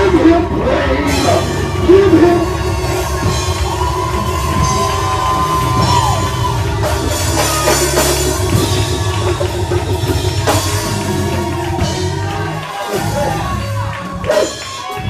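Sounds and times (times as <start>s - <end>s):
band playing up-tempo music: 0.0s - 15.0s
drum kit: 0.0s - 15.0s
heavy bass: 0.0s - 15.0s.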